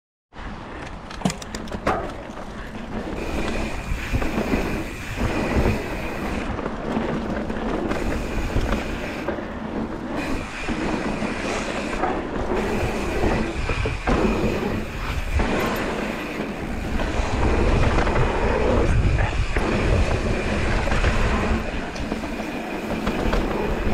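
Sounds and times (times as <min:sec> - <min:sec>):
bike rattling: 0:00.4 - 0:23.9
wind buffeting microphone: 0:00.4 - 0:23.9
tyres rumbling on dirt: 0:00.9 - 0:23.9.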